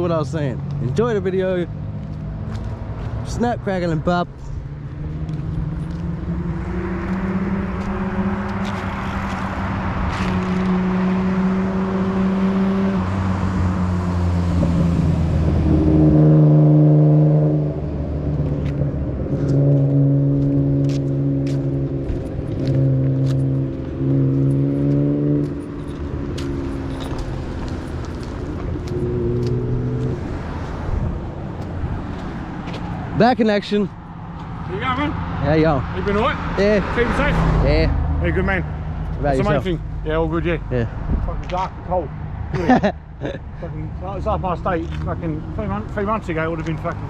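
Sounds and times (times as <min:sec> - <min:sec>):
car engines running: 0:00.0 - 0:47.0.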